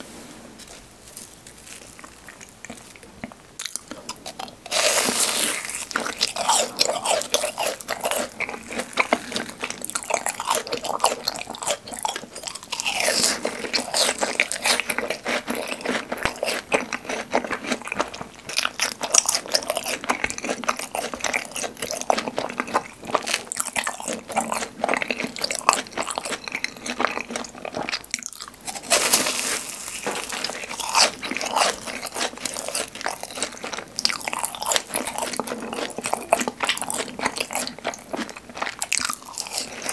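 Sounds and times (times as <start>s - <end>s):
crunchy food chewing: 0.6s - 39.9s.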